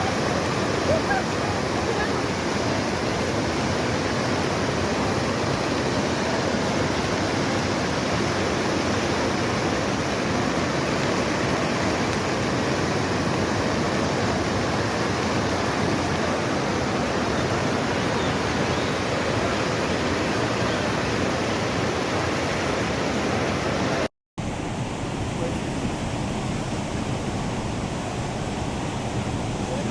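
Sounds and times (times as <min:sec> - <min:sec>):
floodwater rushing: 0:00.0 - 0:29.9.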